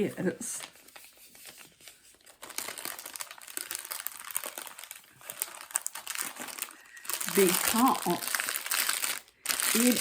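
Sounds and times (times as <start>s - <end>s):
packaging crinkling: 0.4s - 10.0s.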